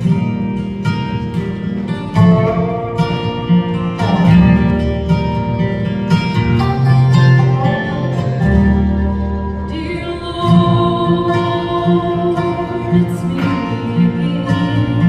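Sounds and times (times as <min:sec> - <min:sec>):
acoustic guitar strumming: 0:00.0 - 0:15.0
bluegrass band playing: 0:00.0 - 0:15.0
upright bass line: 0:01.2 - 0:15.0.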